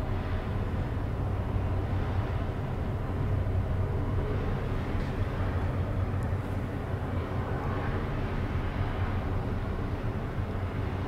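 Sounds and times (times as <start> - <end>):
ferry engines humming: 0.0 - 11.0.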